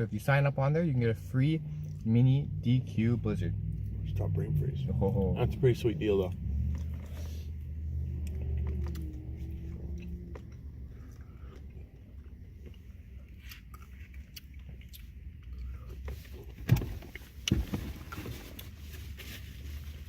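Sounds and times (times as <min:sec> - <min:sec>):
steady low rumble: 0:00.0 - 0:17.5.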